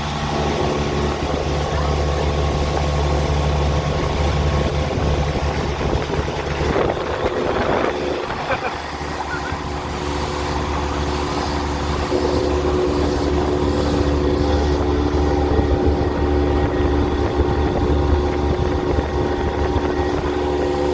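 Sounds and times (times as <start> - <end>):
jet ski engine running: 0.0 - 20.9.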